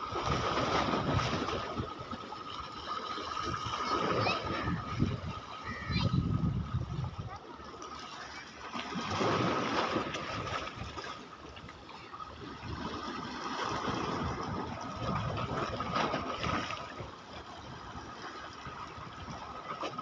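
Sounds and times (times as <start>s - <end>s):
sea water washing at shore: 0.0s - 20.0s.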